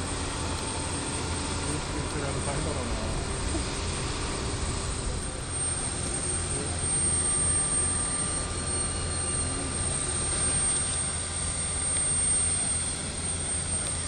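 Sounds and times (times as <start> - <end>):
high constant whine: 0.0 - 14.0
jet engine rumble: 0.0 - 14.0.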